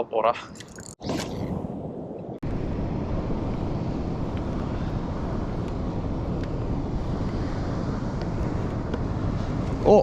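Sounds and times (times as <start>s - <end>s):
wind buffeting microphone: 1.3s - 10.0s.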